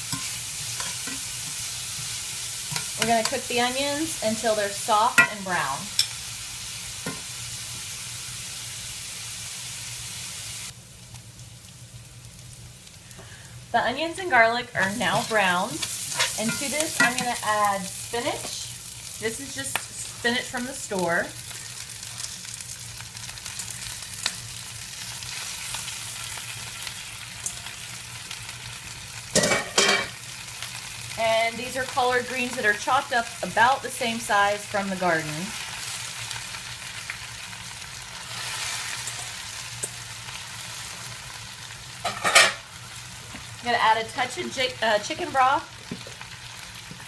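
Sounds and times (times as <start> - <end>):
onions sizzling in a pan: 0.0 - 47.0.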